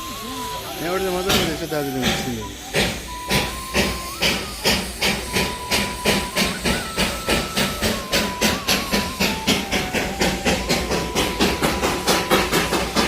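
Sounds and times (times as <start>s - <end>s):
steam locomotive chuffing: 0.0s - 13.0s
thin steady high tone: 0.0s - 13.0s.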